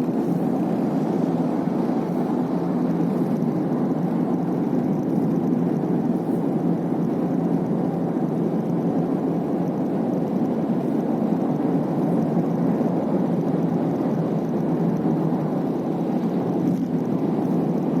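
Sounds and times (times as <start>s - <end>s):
road and tyre noise in car: 0.0s - 18.0s.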